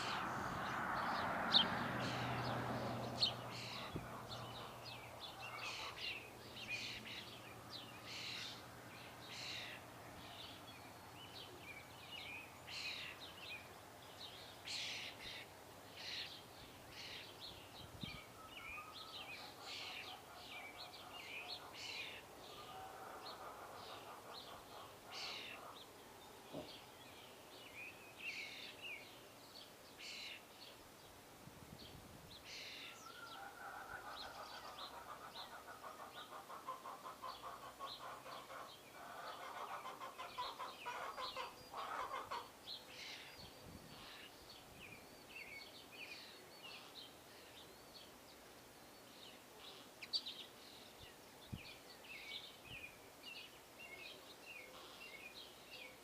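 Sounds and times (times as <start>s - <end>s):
small birds chirping: 0.0s - 31.2s, 31.8s - 56.0s
faint outdoor hiss: 0.0s - 56.0s.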